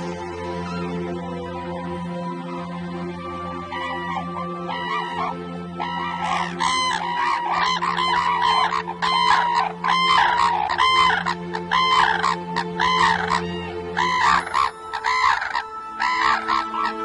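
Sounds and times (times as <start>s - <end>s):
cranes calling: 3.2s - 17.0s.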